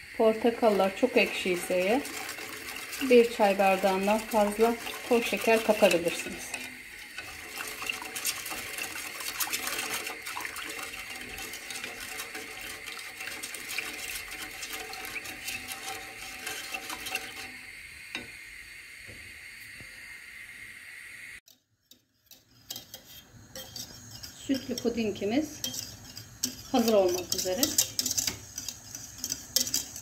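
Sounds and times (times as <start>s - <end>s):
liquid sloshing in pot: 0.0s - 18.3s, 21.5s - 30.0s
whisk tapping pot: 0.2s - 18.3s, 21.5s - 30.0s.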